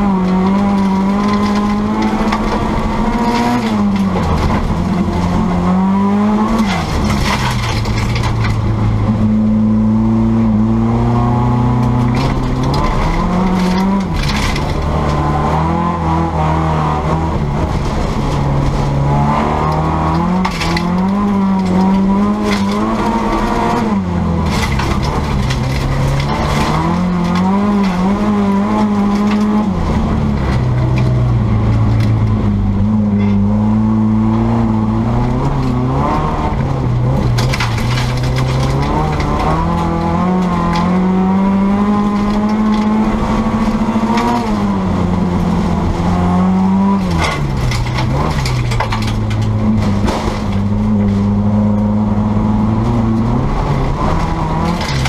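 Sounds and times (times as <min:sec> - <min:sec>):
race car engine revving: 0:00.0 - 0:55.0
tyre and gravel noise: 0:00.0 - 0:55.0.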